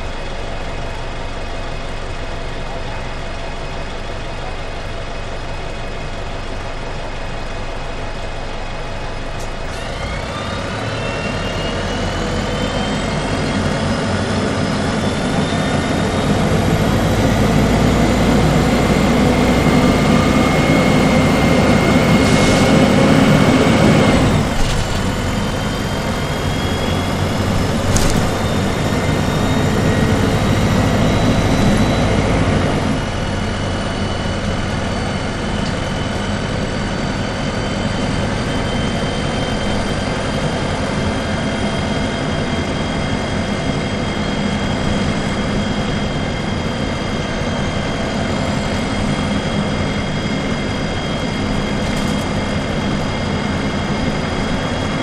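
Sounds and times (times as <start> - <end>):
diesel bus engine idling and pulling away: 0.0 - 55.0
transmission whine rising in pitch: 9.2 - 55.0.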